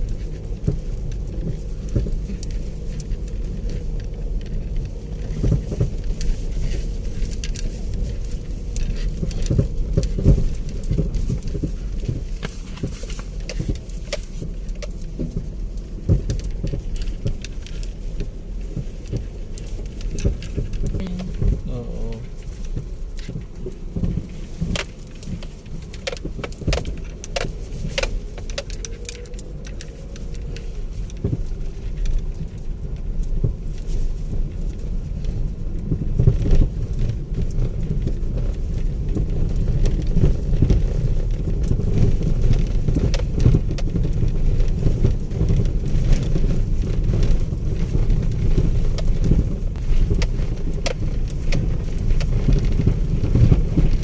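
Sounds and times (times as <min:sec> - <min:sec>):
car engine and tyres rumbling: 0:00.0 - 0:54.0
rattles and knocks in car cabin: 0:00.0 - 0:54.0.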